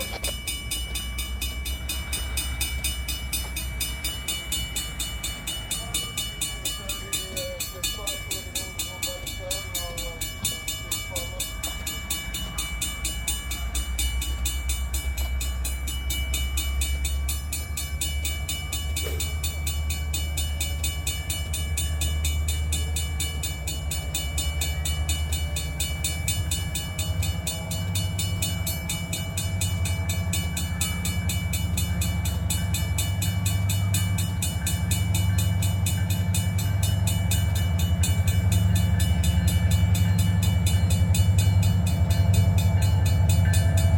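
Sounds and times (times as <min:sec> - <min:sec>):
diesel train rumbling: 0:00.0 - 0:43.9.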